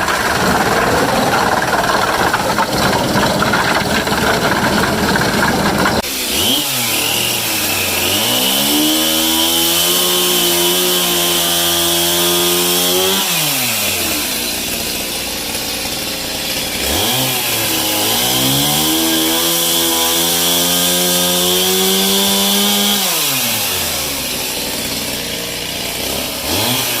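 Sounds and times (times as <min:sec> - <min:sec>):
engine-driven saw revving: 0:00.0 - 0:27.0.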